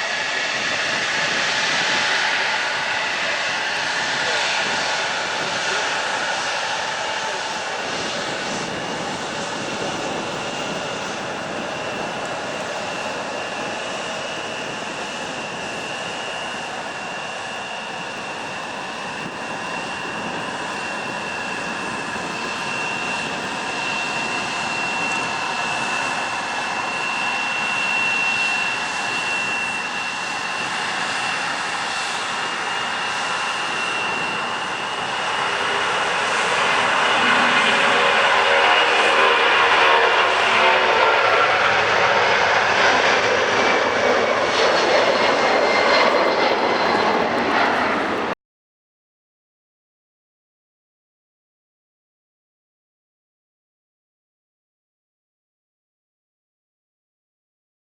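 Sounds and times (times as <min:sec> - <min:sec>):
jet engines roaring: 0:00.0 - 0:48.4.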